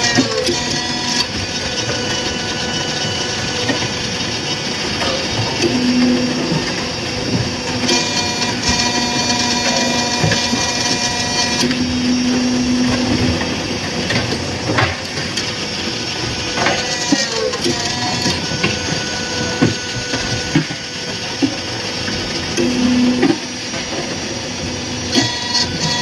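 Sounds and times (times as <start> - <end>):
machine motor hum: 0.0 - 26.0.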